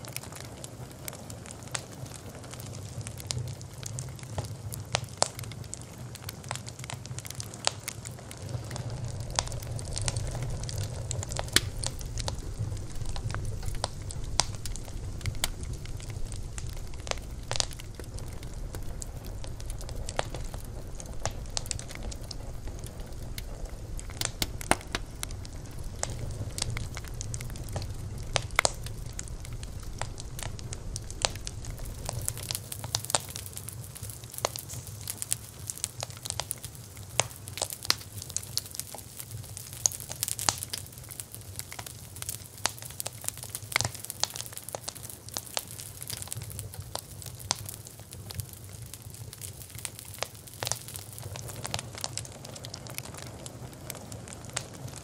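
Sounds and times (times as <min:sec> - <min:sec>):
campfire crackling and popping: 0:00.0 - 0:55.0
fire hissing: 0:00.0 - 0:55.0
low rumble of flames: 0:00.0 - 0:55.0.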